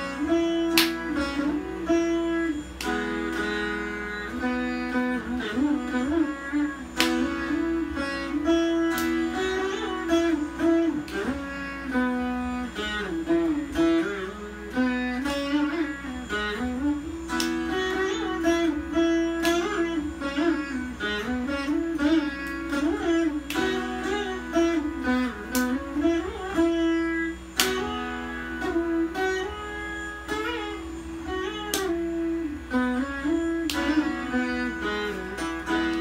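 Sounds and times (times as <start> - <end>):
plucked veena with sliding notes: 0.0 - 36.0.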